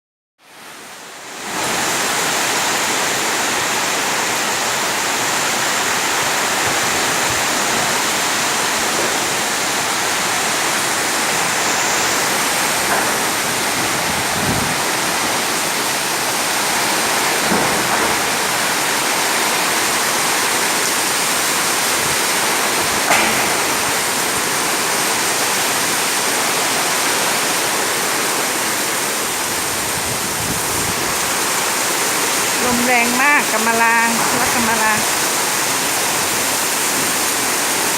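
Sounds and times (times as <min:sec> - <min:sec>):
torrential rain and wind: 0:00.4 - 0:37.9.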